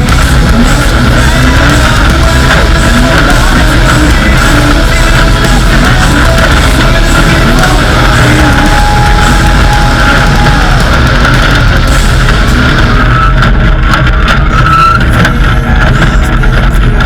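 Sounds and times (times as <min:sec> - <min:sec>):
heavy metal music: 0:00.0 - 0:17.0.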